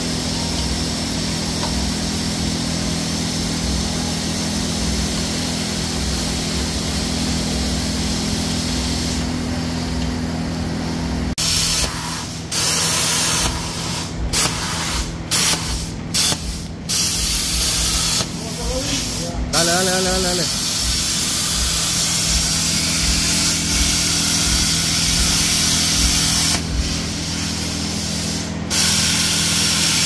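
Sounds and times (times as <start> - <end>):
cutting torch hissing: 0.0 - 30.0
shop machinery humming: 0.0 - 30.0.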